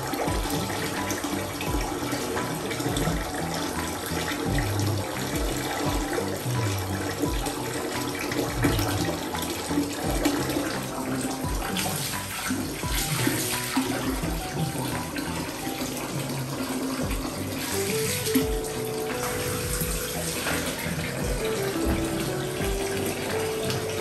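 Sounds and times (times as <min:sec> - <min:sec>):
background music: 0:00.0 - 0:24.0
bath water running from tap: 0:00.0 - 0:24.0.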